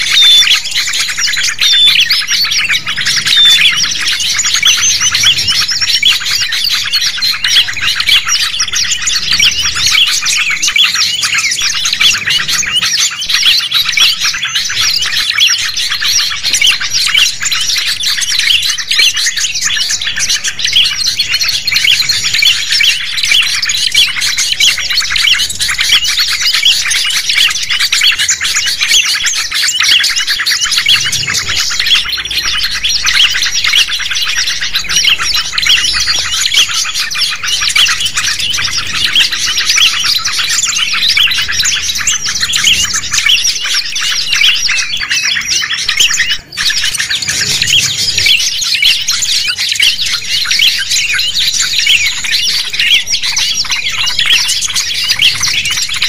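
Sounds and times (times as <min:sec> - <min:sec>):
songbirds chirping in chorus: 0:00.0 - 0:56.0.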